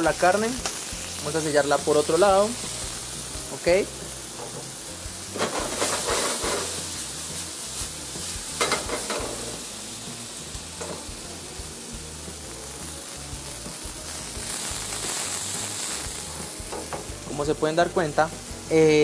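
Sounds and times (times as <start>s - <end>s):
steak sizzling on griddle: 0.0s - 19.0s.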